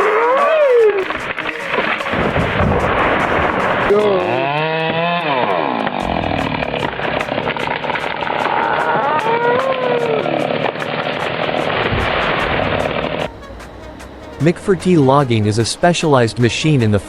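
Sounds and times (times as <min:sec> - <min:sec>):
heavy machinery engine running: 0:01.1 - 0:04.7, 0:05.6 - 0:16.9.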